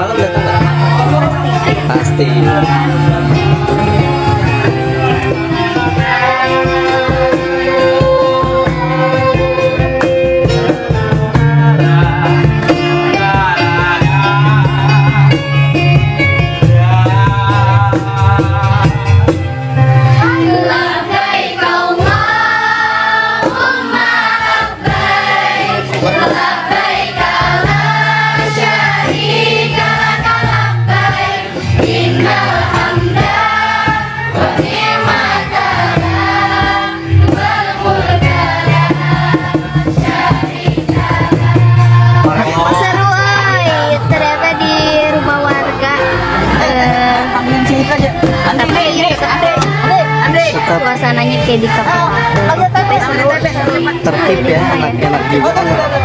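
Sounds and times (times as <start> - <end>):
electronic keyboard accompaniment: 0.0 - 56.0
voices singing along: 0.0 - 56.0.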